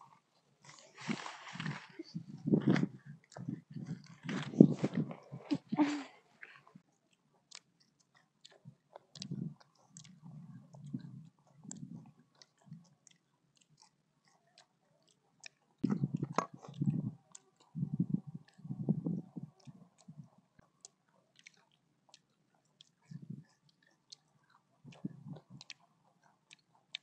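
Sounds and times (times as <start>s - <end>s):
chewing and crunching insects: 0.1s - 5.6s, 6.7s - 27.0s.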